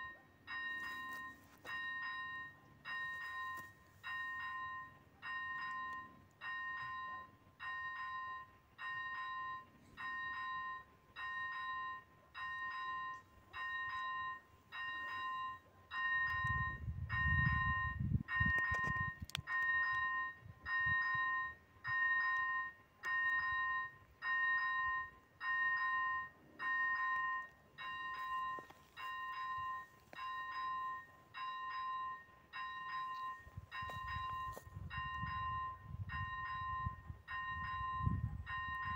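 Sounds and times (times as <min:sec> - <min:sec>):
electronic level-crossing bell dinging: 0:00.0 - 0:38.9.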